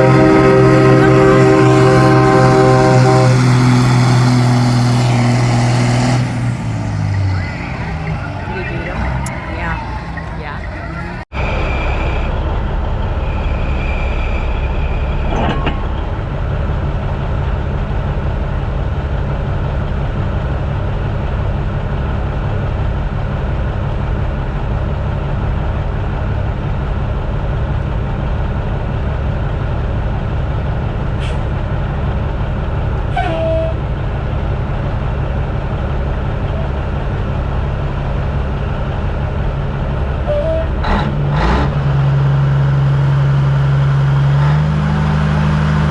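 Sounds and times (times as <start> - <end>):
diesel truck engine running: 0.0 - 14.3, 16.0 - 45.9.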